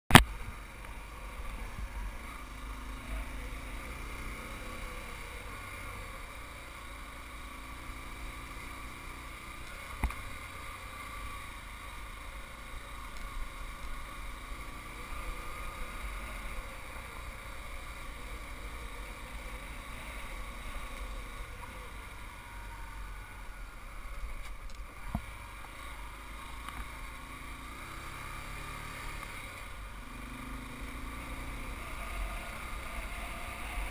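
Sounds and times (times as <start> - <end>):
small motorbike engine running: 0.1 - 33.9.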